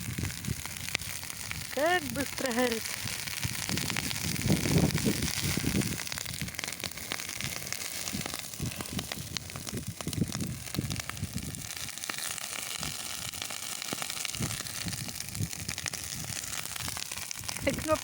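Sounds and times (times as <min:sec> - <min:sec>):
bonfire crackling and popping: 0:00.0 - 0:18.0
hiss of flames: 0:00.0 - 0:18.0.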